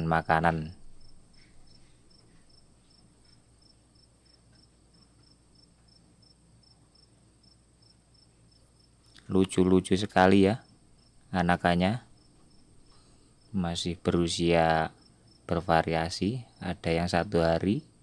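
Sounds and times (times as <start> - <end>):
cricket chirping: 0.0 - 18.0
faint steady hiss: 0.0 - 18.0.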